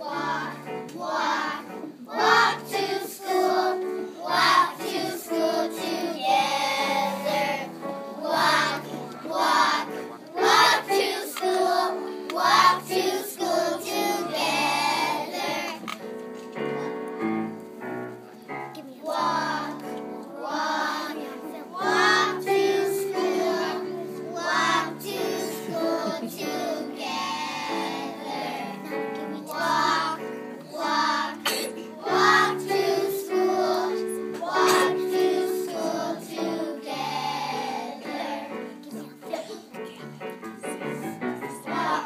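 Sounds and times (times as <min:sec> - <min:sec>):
children singing in unison: 0:00.0 - 0:16.0, 0:18.8 - 0:39.7, 0:40.8 - 0:42.0
instrumental accompaniment: 0:00.0 - 0:42.0.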